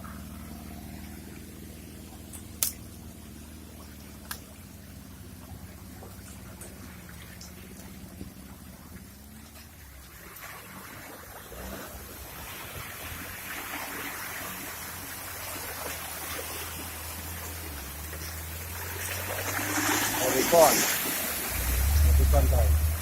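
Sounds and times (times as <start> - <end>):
vehicle engine at low revs: 0.0 - 23.0
water splashing and rushing: 0.0 - 23.0.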